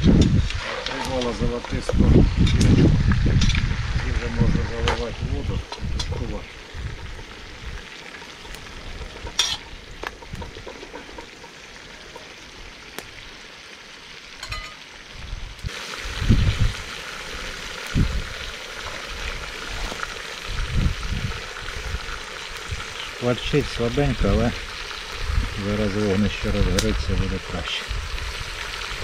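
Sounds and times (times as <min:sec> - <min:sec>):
meat sizzling in oil: 0:00.0 - 0:29.0.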